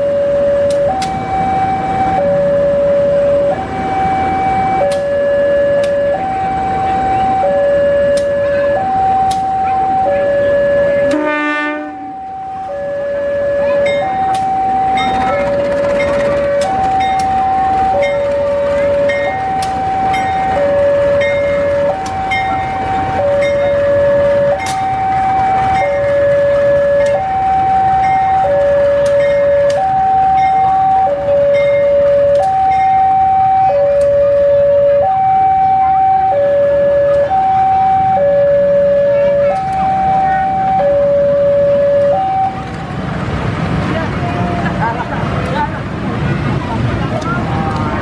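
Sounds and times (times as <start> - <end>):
two-tone level-crossing alarm: 0.0 - 42.6
train rumble: 0.0 - 48.0.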